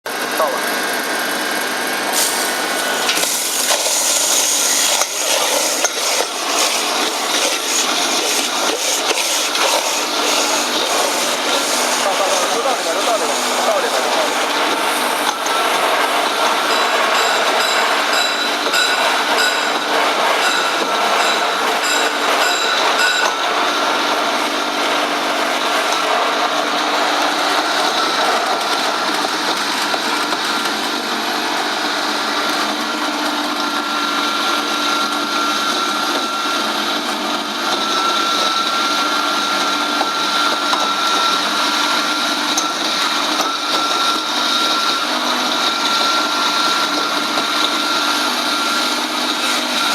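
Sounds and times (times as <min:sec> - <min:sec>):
grinder machine whining: 0:00.1 - 0:49.9.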